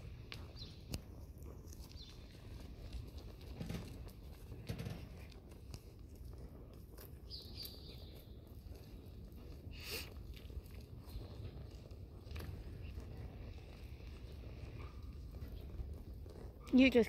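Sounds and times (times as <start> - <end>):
muffled hooves on dirt: 0.0 - 17.0.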